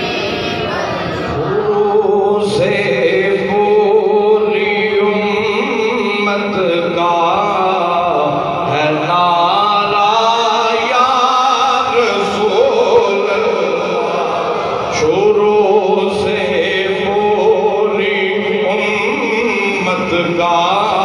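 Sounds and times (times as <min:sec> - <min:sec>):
man chanting into a microphone: 0:01.3 - 0:21.0.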